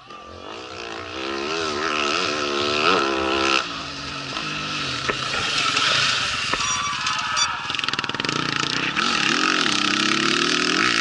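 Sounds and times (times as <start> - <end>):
motorcycle engine passing at speed: 0.1 - 6.5, 7.5 - 11.0.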